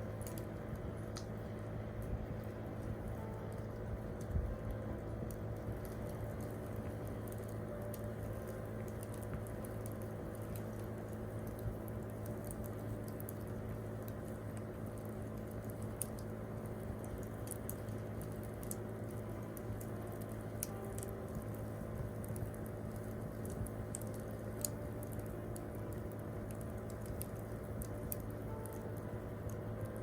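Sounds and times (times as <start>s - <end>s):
campfire crackling and popping: 0.0s - 30.0s
low fire rumble: 0.0s - 30.0s.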